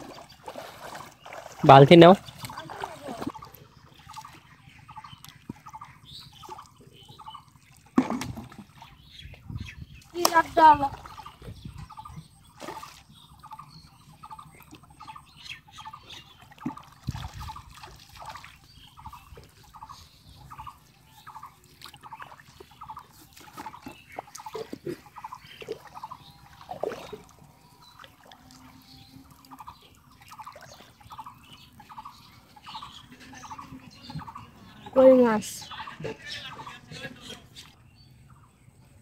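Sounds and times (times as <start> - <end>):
water splashes: 0.0 - 13.6, 14.3 - 37.8.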